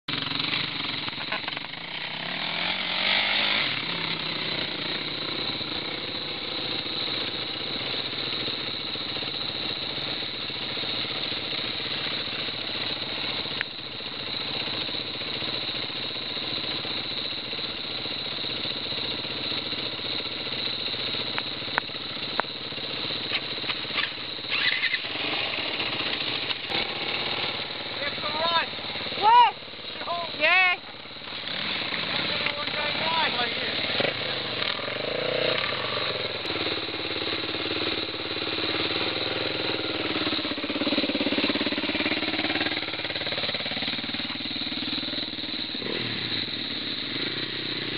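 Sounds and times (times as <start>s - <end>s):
dirt bike engine: 0.1s - 47.9s.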